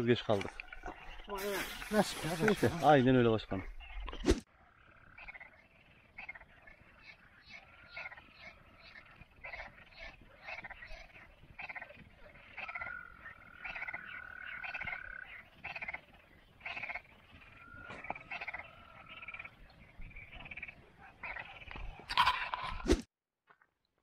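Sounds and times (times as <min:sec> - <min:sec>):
frogs croaking: 0:00.0 - 0:22.5.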